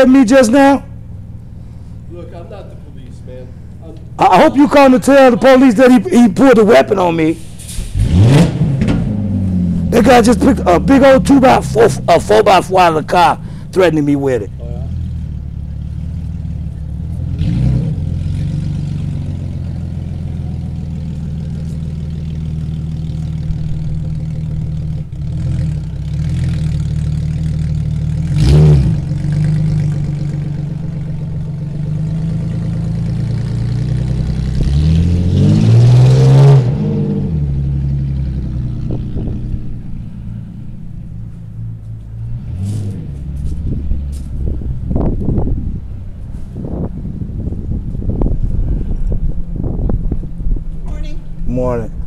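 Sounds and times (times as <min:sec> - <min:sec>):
car engine running and revving: 0:00.0 - 0:52.0.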